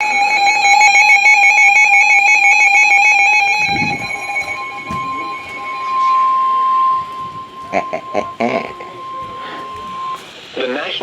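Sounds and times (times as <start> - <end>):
single steady tone: 0.0 - 10.2
pulsing emergency alert tones: 0.0 - 10.6.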